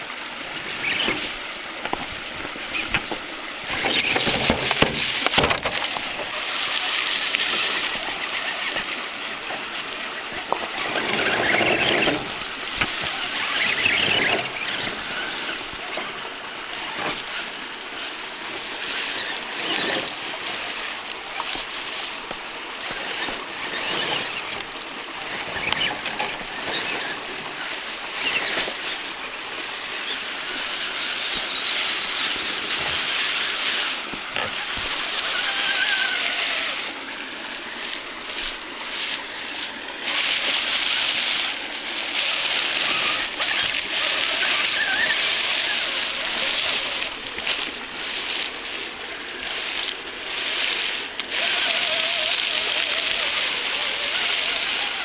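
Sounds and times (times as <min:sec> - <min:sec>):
toy trucks crunching dry leaves: 0:00.0 - 0:55.0.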